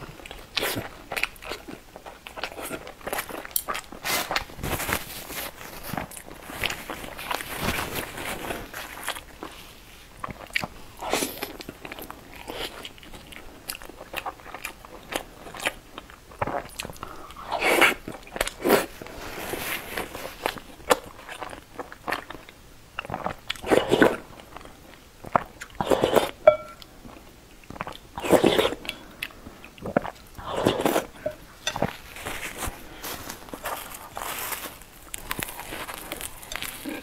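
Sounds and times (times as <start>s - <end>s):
person chewing fried food: 0.0s - 37.0s.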